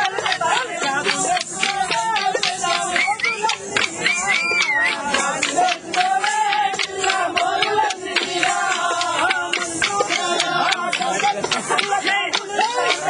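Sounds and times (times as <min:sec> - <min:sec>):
folk singing: 0:00.0 - 0:13.0
wooden sticks clacking: 0:00.0 - 0:13.0.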